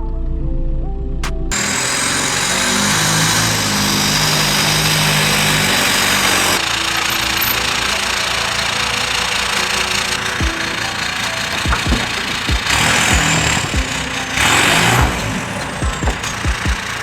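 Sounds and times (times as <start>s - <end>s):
vehicle engine running: 1.2s - 17.0s.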